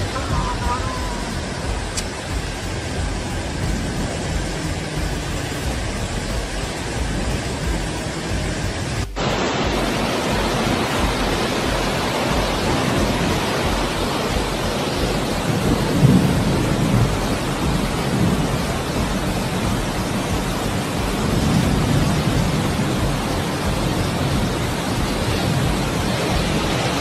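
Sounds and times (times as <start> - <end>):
flood torrent rushing: 0.0 - 27.0
torrential rain: 0.0 - 27.0.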